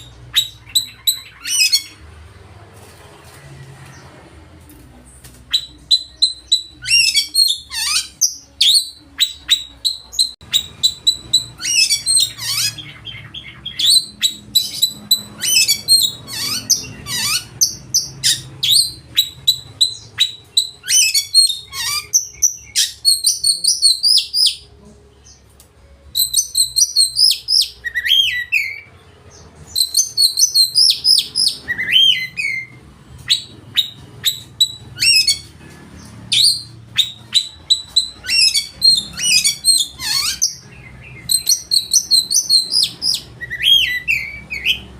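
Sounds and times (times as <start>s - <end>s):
bird singing whistles and chirps: 5.5s - 24.6s, 26.1s - 35.5s, 36.3s - 44.9s.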